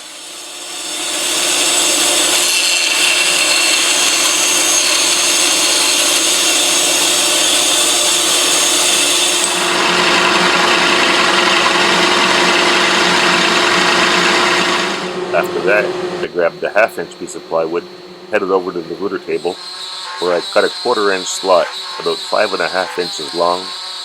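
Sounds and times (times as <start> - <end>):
drill press cutting plywood: 0.0 - 15.8, 19.1 - 24.0
bandsaw cutting plywood: 0.0 - 17.8, 18.4 - 24.0
motor hum: 0.6 - 24.0.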